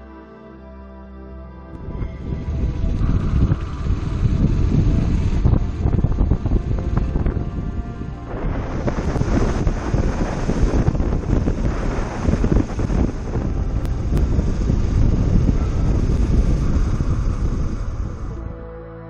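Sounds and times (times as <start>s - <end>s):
wind rushing on microphone: 1.7s - 18.6s.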